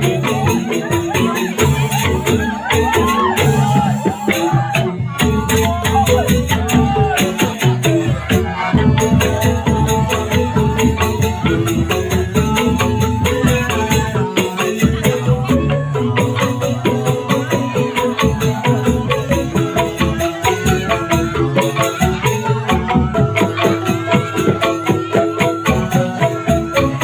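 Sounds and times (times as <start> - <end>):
instrumental music with percussion: 0.0 - 27.0.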